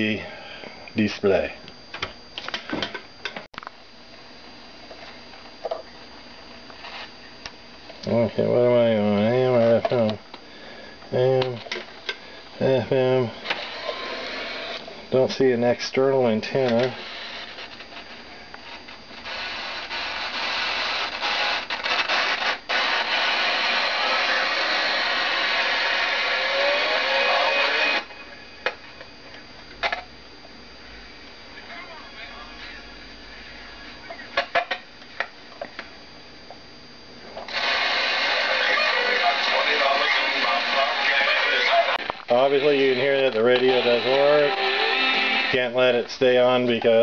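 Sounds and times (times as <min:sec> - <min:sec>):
radio static hiss: 0:00.0 - 0:47.0.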